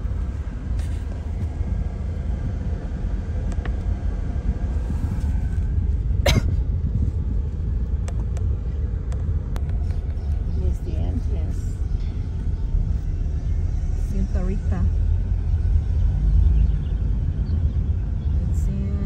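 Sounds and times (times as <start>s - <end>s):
car rumbling while moving: 0.0s - 19.0s.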